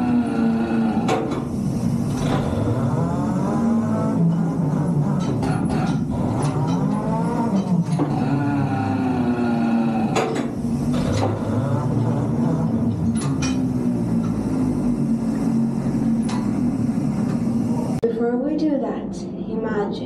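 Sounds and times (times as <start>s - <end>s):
mining machine droning hum: 0.0s - 18.9s.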